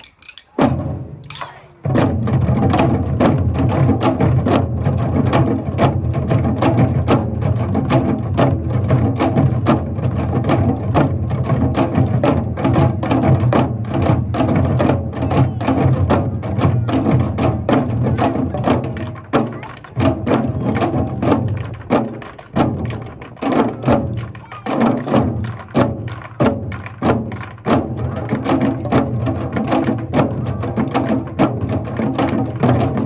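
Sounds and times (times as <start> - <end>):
hourglass drums in fast rhythm: 0.0 - 33.0.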